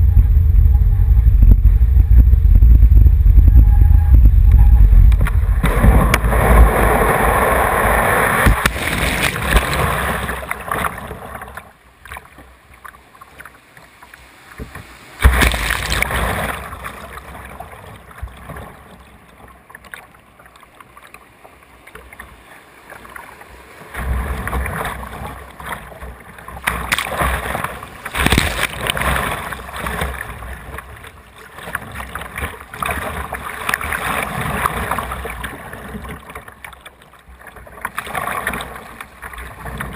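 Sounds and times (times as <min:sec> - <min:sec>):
whitewater splashing against kayak: 0:04.9 - 0:39.9.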